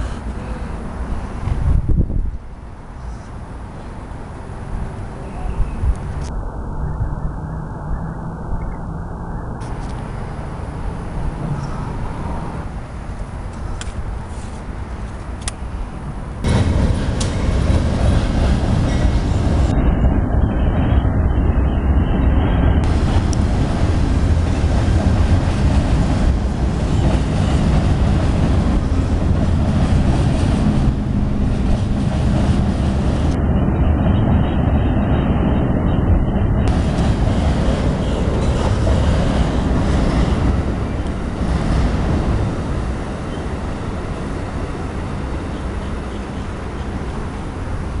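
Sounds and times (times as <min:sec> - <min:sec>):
passenger train rumbling past: 0:00.0 - 0:48.0.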